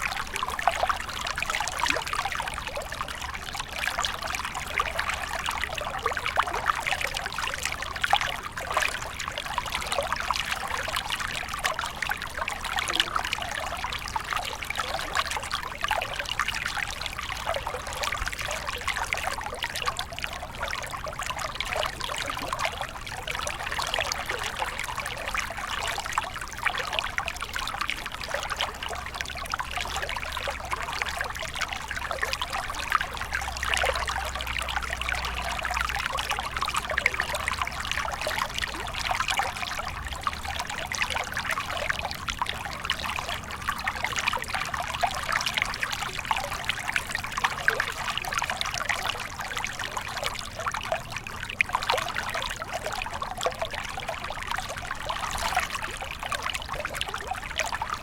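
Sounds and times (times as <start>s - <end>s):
stream trickling and splashing: 0.0s - 58.0s.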